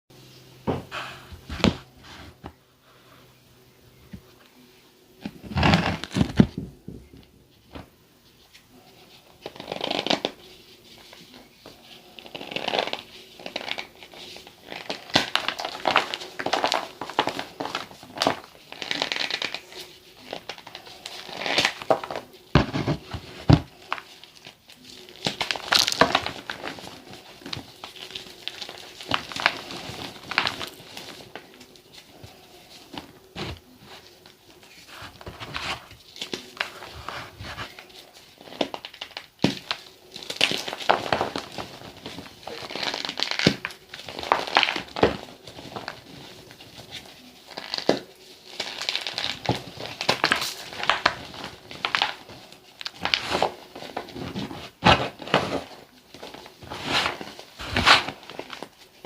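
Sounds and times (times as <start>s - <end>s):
soft crackling and crumbling: 0.2s - 59.0s.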